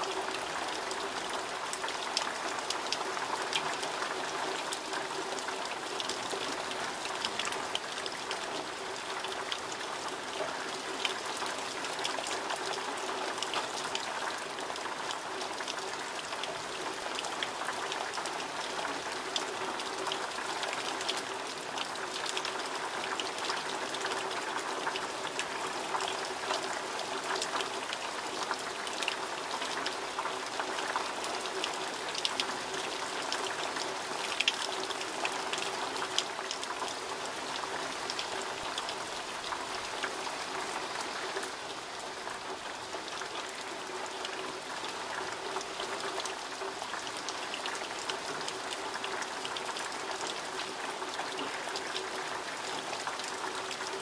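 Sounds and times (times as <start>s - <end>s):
heavy rain: 0.0s - 54.0s
raindrops ticking on surfaces: 0.0s - 54.0s.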